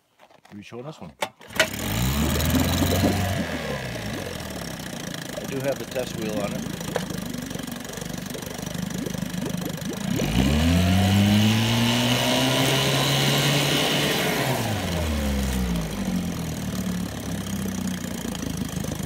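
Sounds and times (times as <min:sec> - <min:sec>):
outboard motor idling and revving: 0:01.5 - 0:19.0.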